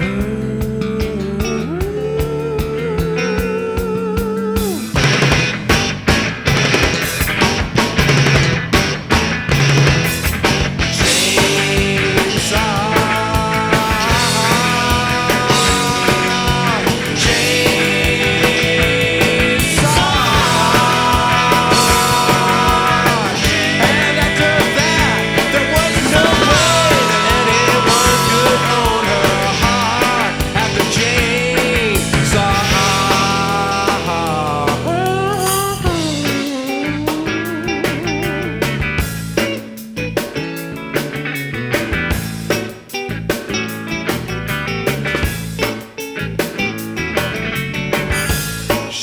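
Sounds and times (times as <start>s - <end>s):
rock band instrumental: 0.0s - 49.0s.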